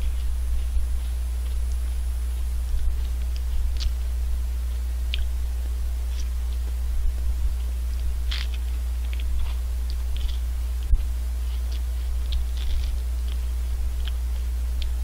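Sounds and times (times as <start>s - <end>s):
crunching and chewing ice cream cone: 0.0s - 15.0s
steady low hum: 0.0s - 15.0s.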